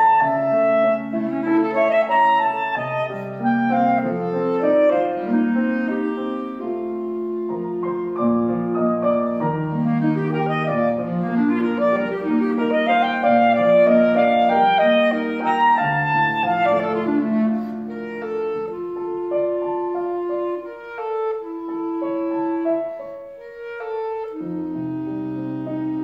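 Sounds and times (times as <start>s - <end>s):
clarinet melody: 0.0s - 26.0s
piano accompaniment: 0.0s - 26.0s.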